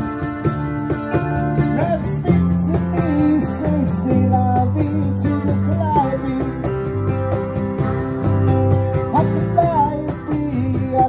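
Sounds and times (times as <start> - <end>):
bass line: 0.0 - 11.0
lead guitar bending notes: 0.0 - 11.0
percussion beat: 0.0 - 11.0
strummed acoustic guitar: 0.0 - 11.0.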